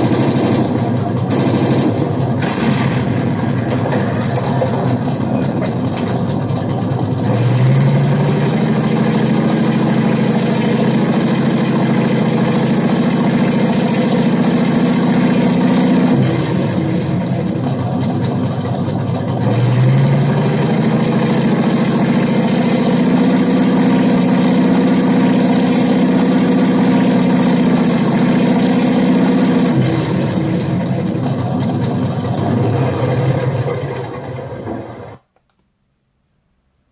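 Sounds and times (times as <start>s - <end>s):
simulated tank engine: 0.0s - 35.2s.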